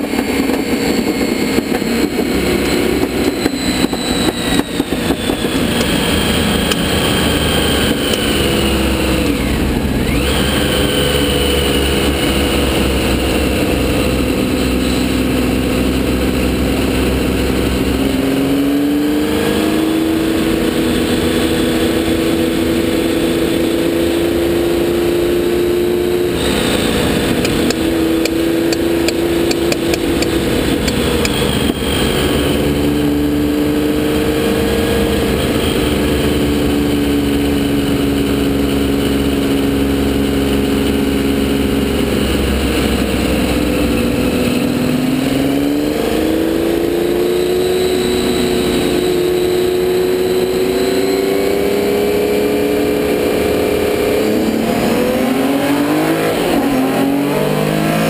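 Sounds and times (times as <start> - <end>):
racing engine at speed: 0.0 - 58.0.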